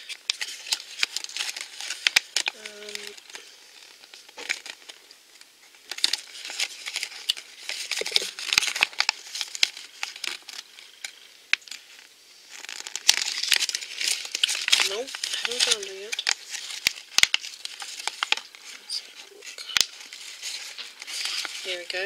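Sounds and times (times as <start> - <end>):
paper crinkling and rustling: 0.0 - 22.0.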